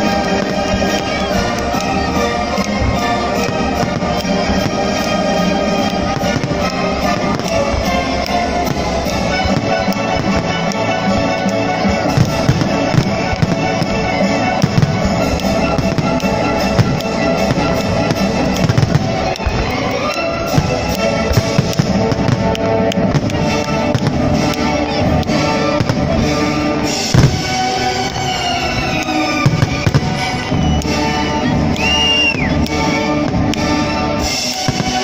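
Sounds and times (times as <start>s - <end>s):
fireworks bursting: 0.0s - 35.0s
loud music: 0.0s - 35.0s.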